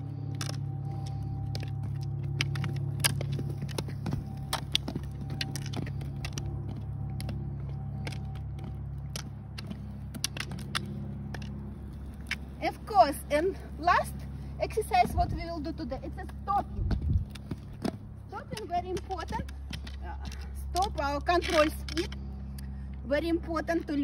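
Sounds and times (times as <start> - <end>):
roller skis rolling on asphalt: 0.0 - 24.0
ski poles clicking on pavement: 0.0 - 24.0.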